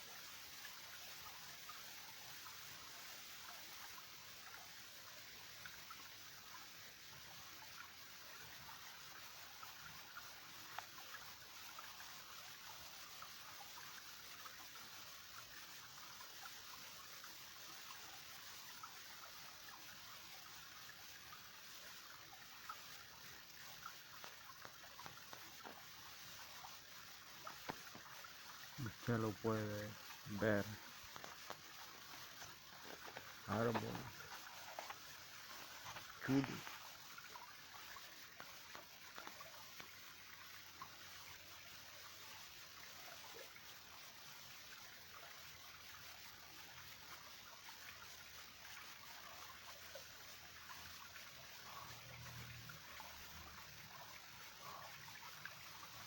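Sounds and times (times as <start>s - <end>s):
small stream trickling: 0.0s - 56.0s.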